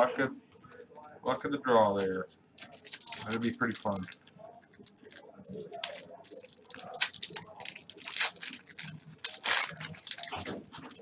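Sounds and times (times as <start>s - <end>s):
foil wrapper tearing and crinkling: 2.2s - 11.0s.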